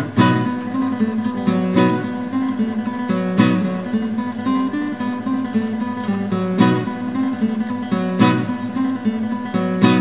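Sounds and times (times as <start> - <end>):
acoustic guitar melody: 0.0 - 10.0.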